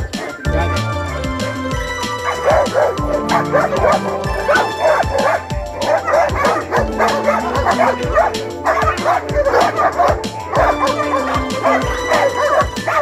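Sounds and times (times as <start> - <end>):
background music with steady beat: 0.0 - 13.0
dog barking with high yelps: 0.0 - 13.0.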